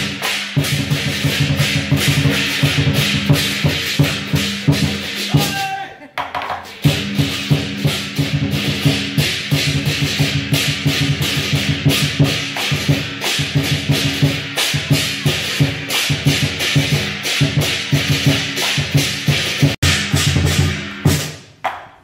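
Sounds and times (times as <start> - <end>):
hand cymbals clashing: 0.0 - 5.7, 6.6 - 21.5
drum beats: 0.0 - 22.0.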